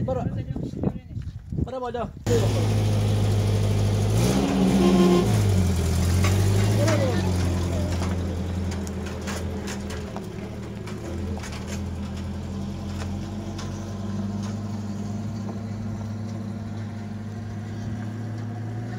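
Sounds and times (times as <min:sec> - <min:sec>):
pickup truck engine running: 0:02.3 - 0:18.9.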